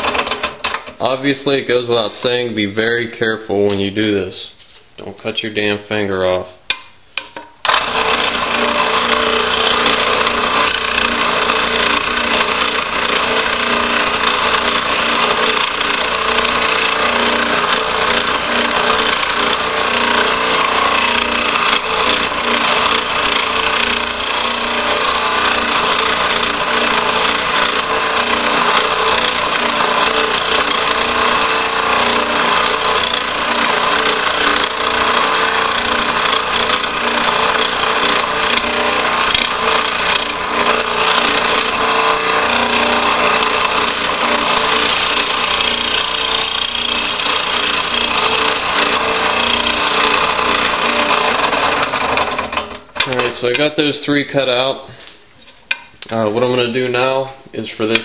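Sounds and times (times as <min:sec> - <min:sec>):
scroll saw cutting hardboard: 0:00.0 - 0:00.8, 0:07.7 - 0:53.4.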